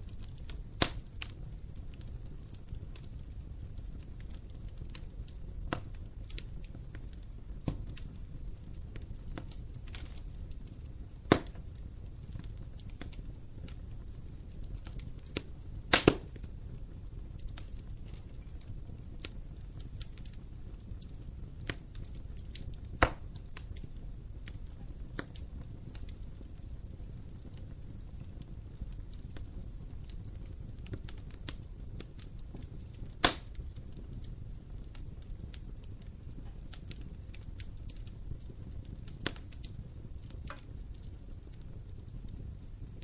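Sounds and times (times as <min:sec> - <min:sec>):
fire crackling: 0:00.0 - 0:43.0
fire flames rumbling: 0:00.0 - 0:43.0
sharp pops of burning wood: 0:00.0 - 0:43.0.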